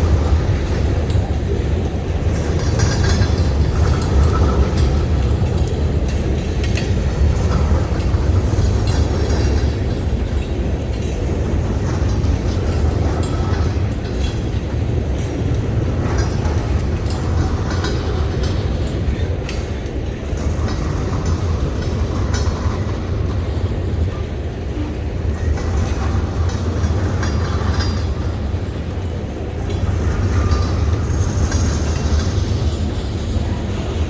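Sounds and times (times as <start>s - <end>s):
freight train rumbling: 0.0s - 34.0s
wheels clicking over rail joints: 0.0s - 34.0s.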